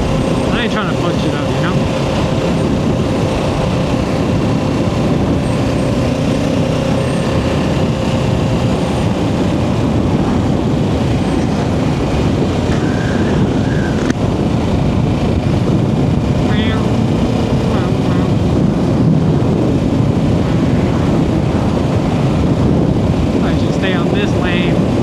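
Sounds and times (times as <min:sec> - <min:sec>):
motorcycle engine running: 0:00.0 - 0:25.0
wind rushing over microphone: 0:00.0 - 0:25.0.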